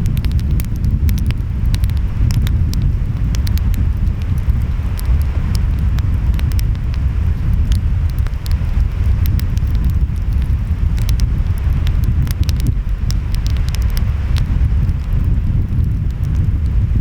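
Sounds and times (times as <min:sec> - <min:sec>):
wind: 0:00.0 - 0:17.0
wood fire crackling and popping: 0:00.0 - 0:17.0.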